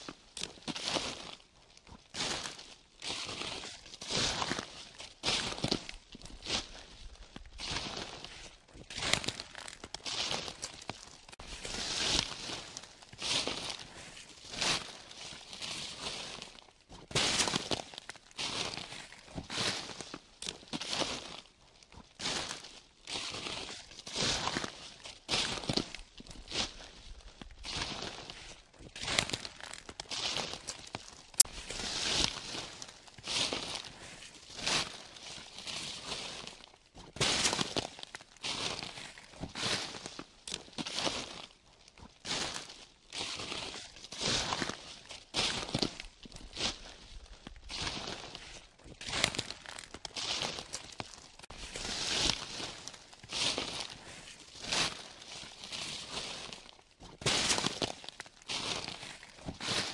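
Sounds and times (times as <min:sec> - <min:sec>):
footsteps crunching through dry leaves: 0:00.0 - 0:59.9.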